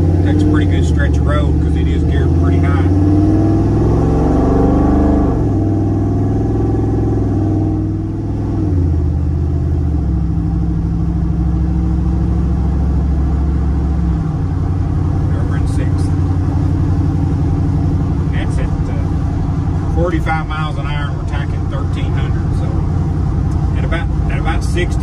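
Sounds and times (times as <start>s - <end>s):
car engine accelerating through gears: 0.0s - 25.0s.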